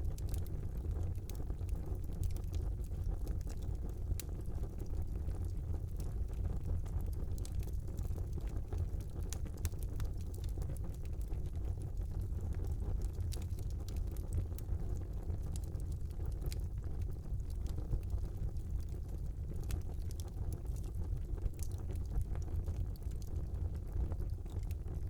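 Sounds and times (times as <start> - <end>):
fire crackling and popping: 0.0 - 25.0
fire flames rumbling: 0.0 - 25.0.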